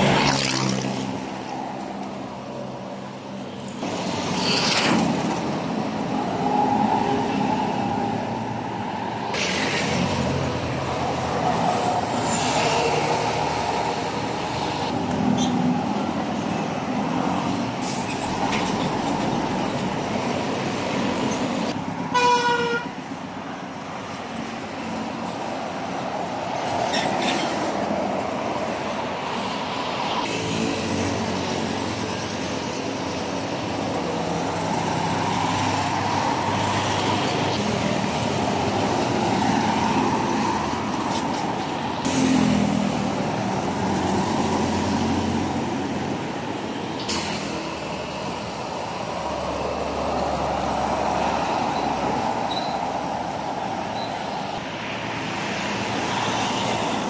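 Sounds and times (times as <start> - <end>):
engine rumble of passing traffic: 0.0 - 57.0.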